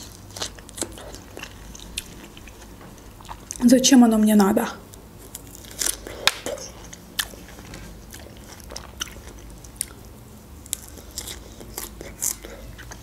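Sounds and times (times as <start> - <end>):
woman chewing strawberries: 0.0 - 3.6, 5.2 - 13.0.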